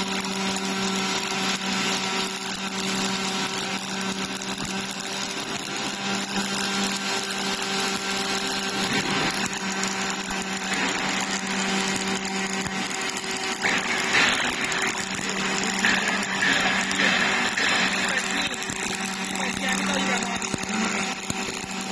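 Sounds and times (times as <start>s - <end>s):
welding arc hissing: 0.0s - 21.9s.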